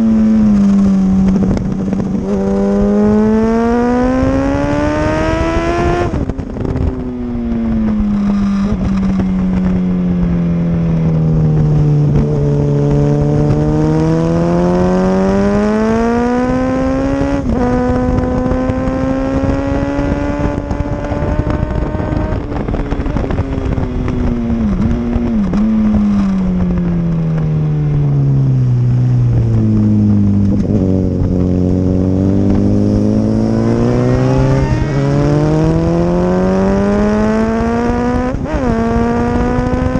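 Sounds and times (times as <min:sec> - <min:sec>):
engine revving: 0:00.0 - 0:06.9, 0:11.5 - 0:27.4, 0:28.3 - 0:39.9.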